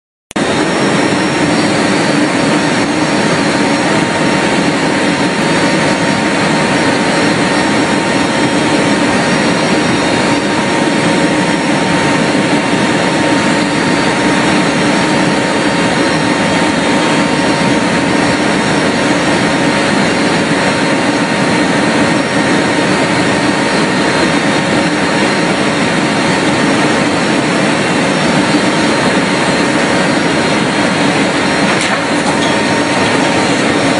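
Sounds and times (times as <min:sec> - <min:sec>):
aircraft engines droning: 0:00.3 - 0:33.9
rushing air: 0:00.4 - 0:33.9.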